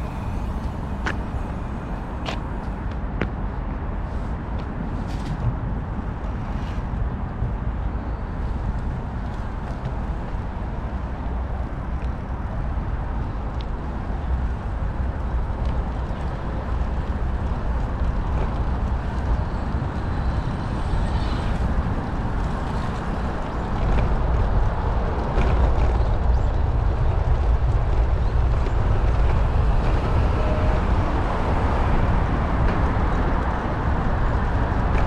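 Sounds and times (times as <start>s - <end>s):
bicycle tyre and road noise: 0.0s - 35.0s
wind buffeting microphone: 0.0s - 35.0s.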